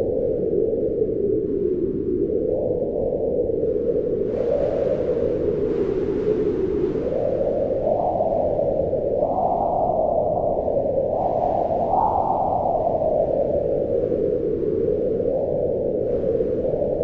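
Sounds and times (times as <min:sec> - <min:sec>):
howling wind gusts: 0:00.0 - 0:17.0.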